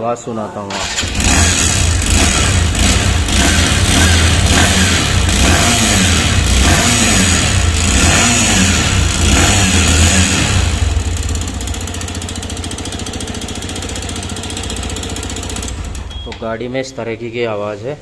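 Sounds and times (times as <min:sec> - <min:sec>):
motorcycle engine running: 0:00.7 - 0:16.4.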